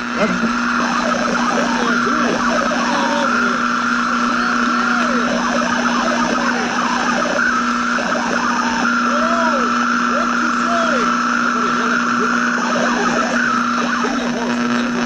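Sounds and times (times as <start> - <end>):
constant low hum: 0.0 - 15.0
radio static hiss: 0.0 - 15.0.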